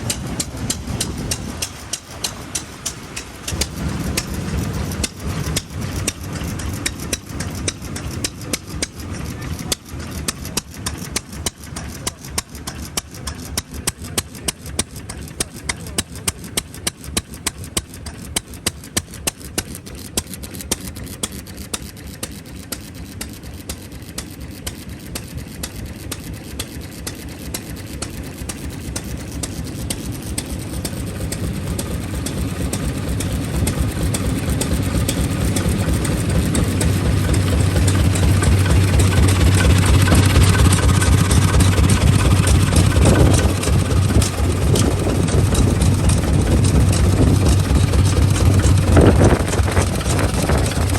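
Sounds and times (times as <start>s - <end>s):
low engine hum: 0.0s - 50.9s
stationary engine firing beats: 0.0s - 50.9s.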